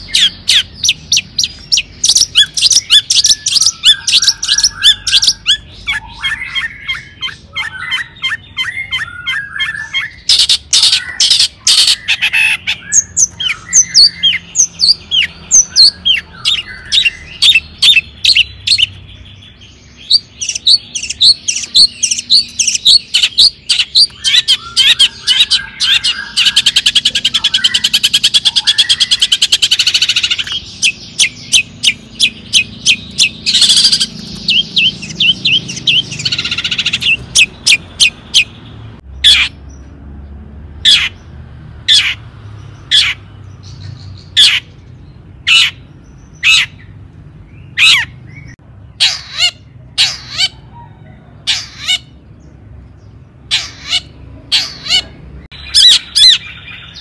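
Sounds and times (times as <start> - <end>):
bird singing and calling: 0.0 - 57.0.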